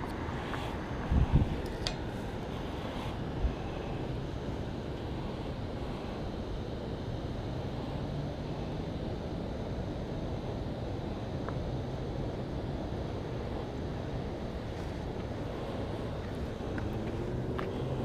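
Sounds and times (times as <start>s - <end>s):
distant city traffic rumble: 0.0s - 18.0s.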